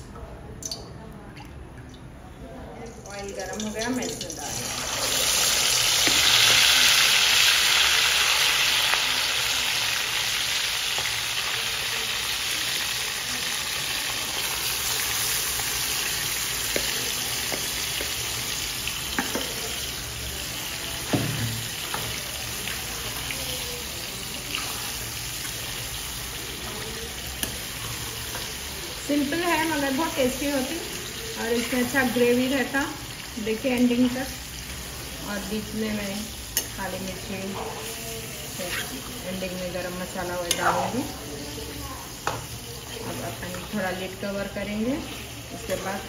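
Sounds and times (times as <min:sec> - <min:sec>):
meat sizzling in hot oil: 0:03.6 - 0:46.0.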